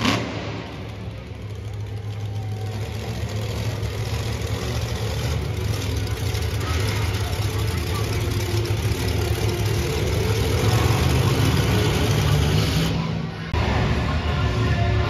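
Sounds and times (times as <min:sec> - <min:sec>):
monster truck engine running: 0:00.0 - 0:15.0.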